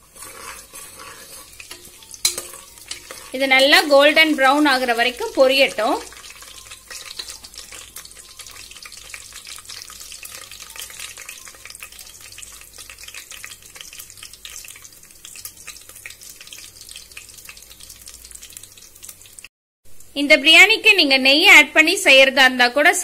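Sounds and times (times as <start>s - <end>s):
spices sizzling in hot oil: 0.0s - 20.2s.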